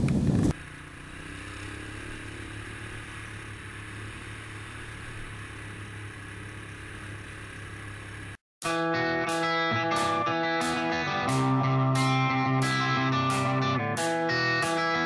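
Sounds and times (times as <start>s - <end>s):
all-terrain vehicle engine running: 0.0s - 8.4s, 9.4s - 15.0s.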